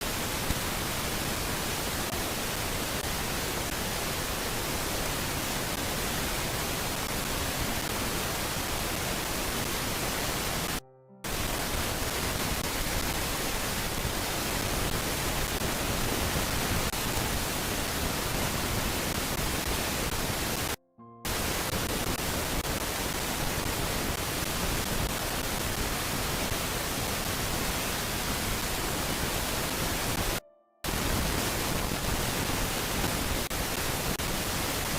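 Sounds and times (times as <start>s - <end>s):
steady static hiss: 0.0s - 34.9s.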